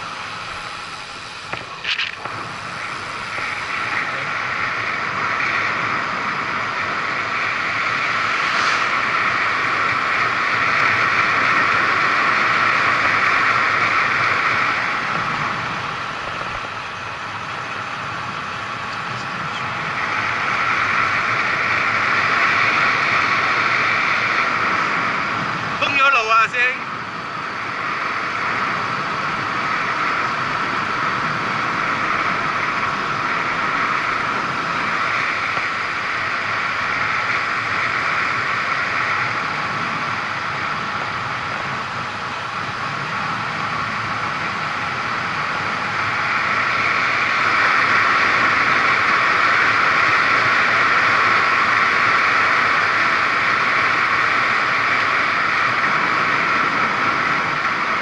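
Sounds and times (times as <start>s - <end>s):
road noise: 0.0s - 58.0s
rushing wind: 0.0s - 58.0s.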